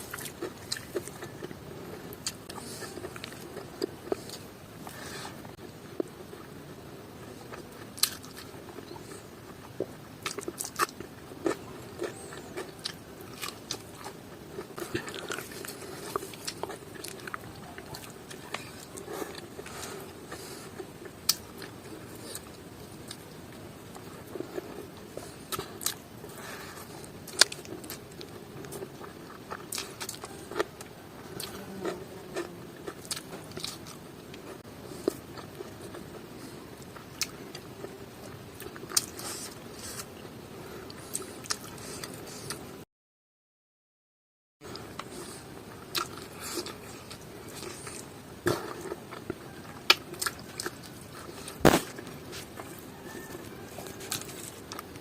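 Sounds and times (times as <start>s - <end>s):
person chewing food: 0.0s - 6.5s, 7.2s - 42.7s, 44.6s - 55.0s.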